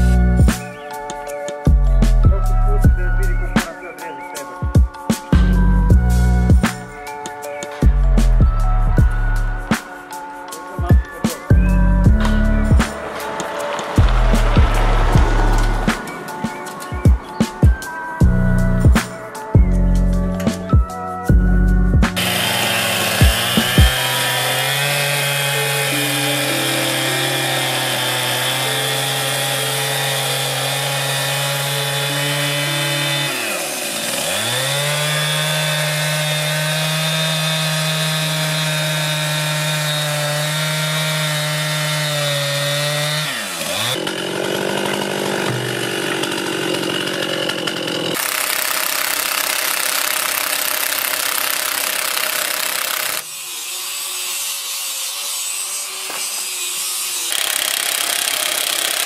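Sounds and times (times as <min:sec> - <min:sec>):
chainsaw cutting timber: 0:00.0 - 0:20.8, 0:22.0 - 0:59.0.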